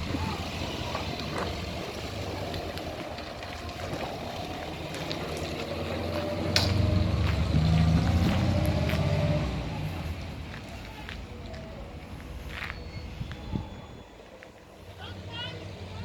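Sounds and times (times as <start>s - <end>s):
car engine humming: 0.0s - 16.0s.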